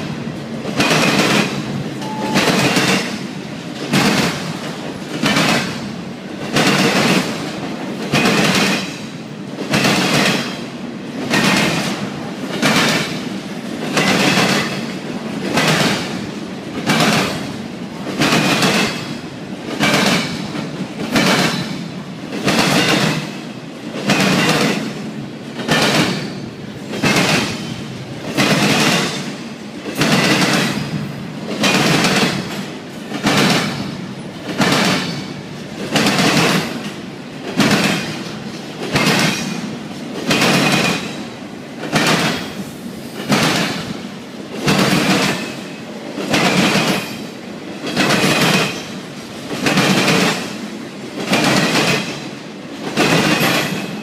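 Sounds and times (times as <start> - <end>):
train wheels clacking over rail joints: 0.0 - 54.0.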